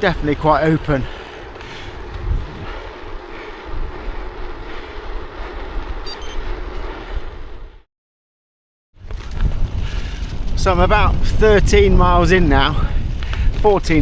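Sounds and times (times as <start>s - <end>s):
bike tyres rolling on gravel: 0.0s - 7.8s, 9.0s - 14.0s
wind on microphone: 1.0s - 7.8s, 9.0s - 14.0s.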